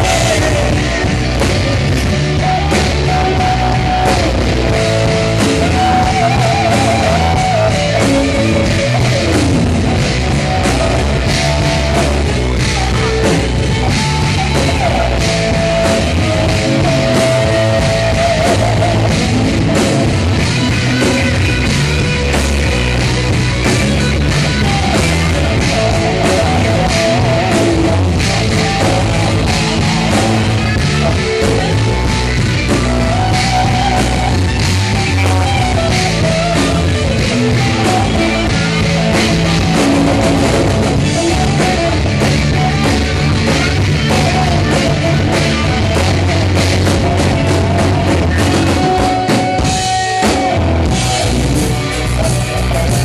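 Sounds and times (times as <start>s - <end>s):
electric guitar lines: 0.0s - 53.0s
hard rock band playing live: 0.0s - 53.0s.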